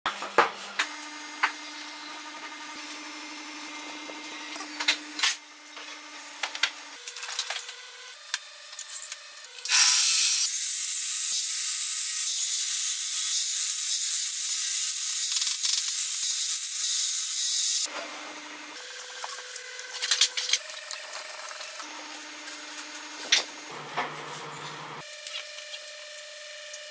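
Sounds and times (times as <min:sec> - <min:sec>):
table saw cutting wood: 0:00.3 - 0:26.9.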